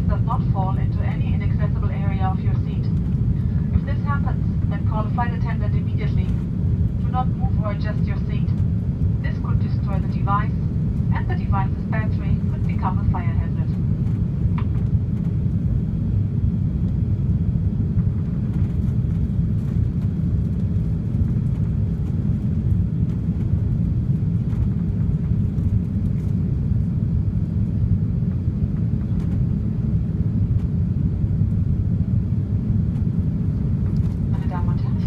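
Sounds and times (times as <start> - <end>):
airplane cabin engine rumble: 0.0 - 35.0.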